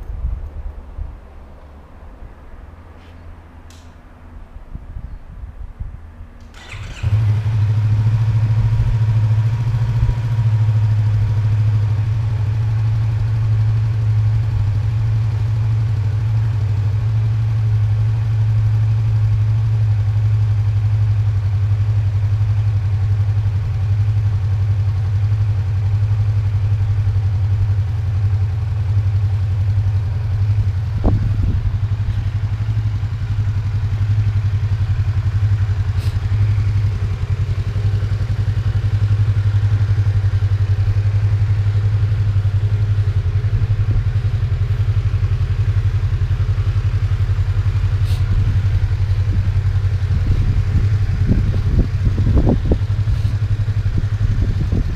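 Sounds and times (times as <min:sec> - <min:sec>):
motorcycle engine idling: 0:06.3 - 0:54.9.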